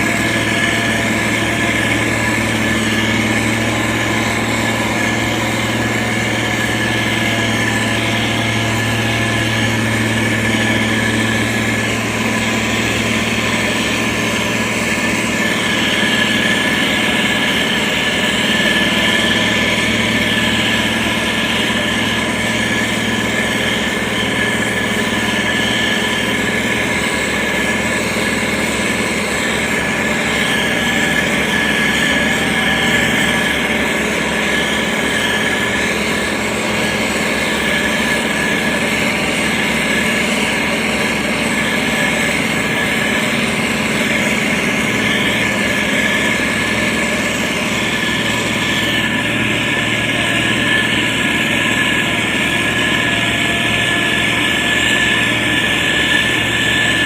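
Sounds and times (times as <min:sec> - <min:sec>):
diesel engine running: 0:00.0 - 0:57.0
high whine: 0:00.0 - 0:57.0.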